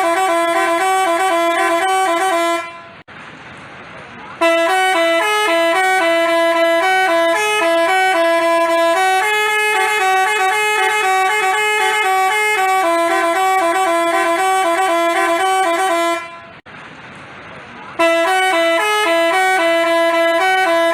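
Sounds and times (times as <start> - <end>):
bus horn playing a tune: 0.0 - 3.1, 4.4 - 16.6, 18.0 - 20.9.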